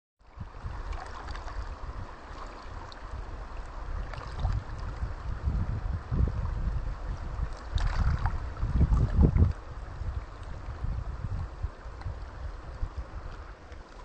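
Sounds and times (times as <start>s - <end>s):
river rippling over pebbles: 0.2s - 14.0s
wind buffeting microphone: 0.2s - 14.0s.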